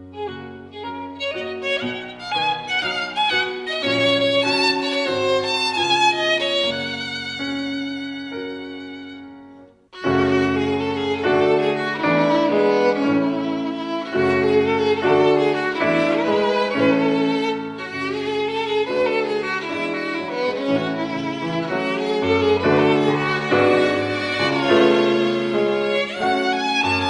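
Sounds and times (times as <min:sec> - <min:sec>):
classical violin music: 0:00.0 - 0:27.0.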